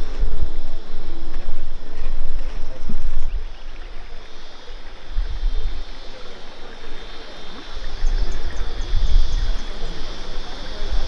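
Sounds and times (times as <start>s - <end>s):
steady high-pitched hiss: 0.0s - 11.0s
wind gusting on microphone: 0.0s - 11.0s.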